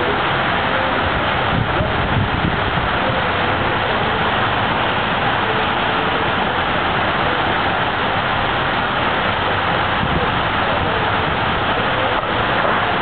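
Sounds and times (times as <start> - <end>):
water rushing down slide: 0.0 - 13.0.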